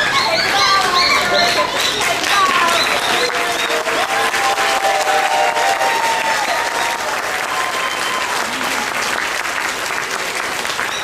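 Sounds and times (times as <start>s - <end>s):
audience applauding: 0.0s - 11.0s
voices in crowd: 0.0s - 11.0s.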